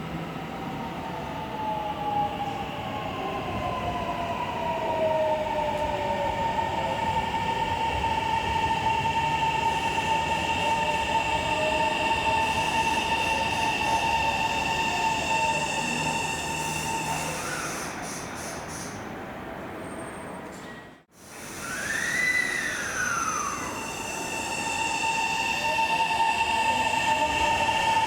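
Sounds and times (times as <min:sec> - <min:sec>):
electric train whine: 0:00.0 - 0:18.3, 0:21.2 - 0:28.0.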